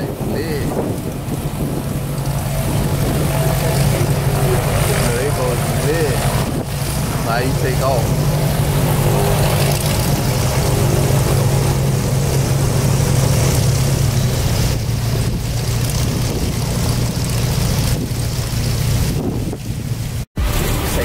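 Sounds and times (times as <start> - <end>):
airboat engine and propeller: 0.0 - 21.0.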